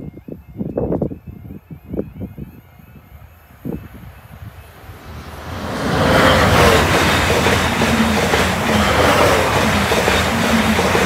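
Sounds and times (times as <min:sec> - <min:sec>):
electric train rolling: 0:01.9 - 0:11.0.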